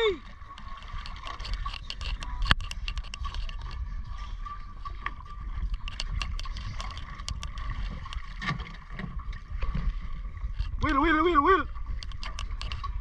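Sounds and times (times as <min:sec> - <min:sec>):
water sloshing: 0:00.0 - 0:13.0
wind noise on microphone: 0:00.0 - 0:13.0.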